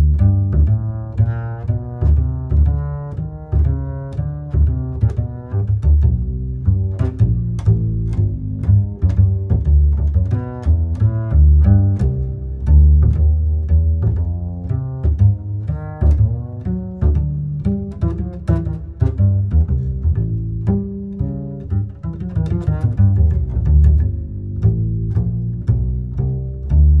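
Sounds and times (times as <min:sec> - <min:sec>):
music with heavy plucked bass: 0:00.0 - 0:27.0.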